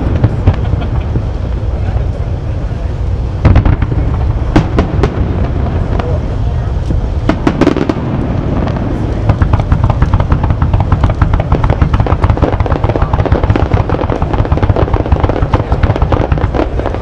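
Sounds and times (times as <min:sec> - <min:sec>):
fireworks crackling and popping: 0:00.0 - 0:17.0
low rumble: 0:00.0 - 0:17.0.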